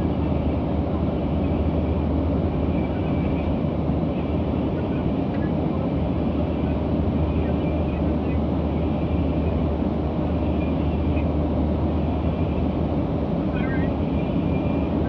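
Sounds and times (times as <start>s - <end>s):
jet engines and airflow in cabin: 0.0s - 15.0s.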